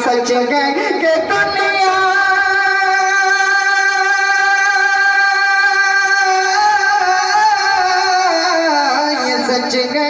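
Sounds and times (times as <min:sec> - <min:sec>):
person singing devotional song: 0:00.0 - 0:10.0.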